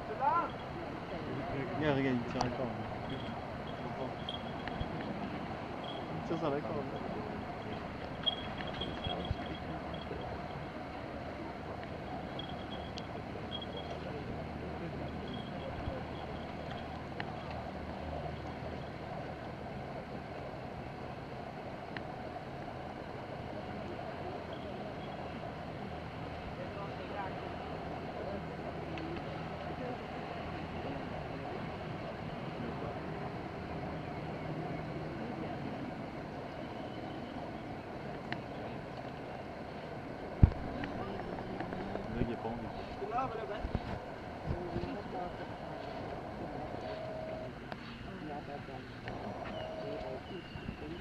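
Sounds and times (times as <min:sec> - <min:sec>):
low background drone: 0:00.0 - 0:51.0
low even hum: 0:00.0 - 0:51.0.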